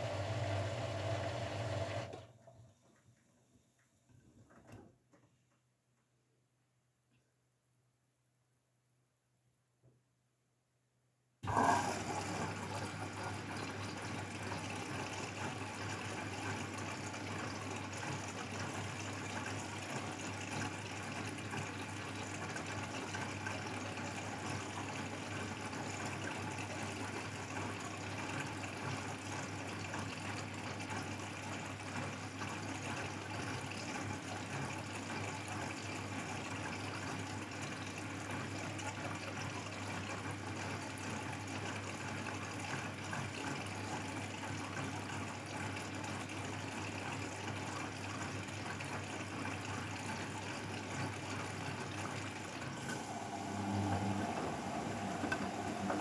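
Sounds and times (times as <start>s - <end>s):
water rushing in washing machine: 0.0s - 2.6s, 11.4s - 56.0s.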